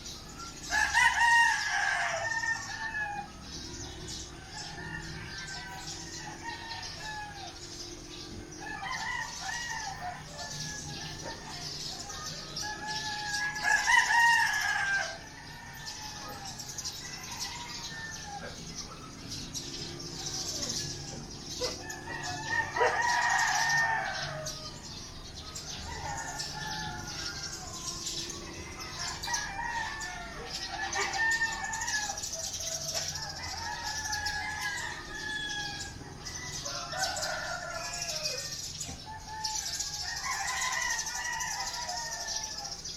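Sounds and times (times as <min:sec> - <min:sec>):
roosters crowing: 0:00.0 - 0:42.9.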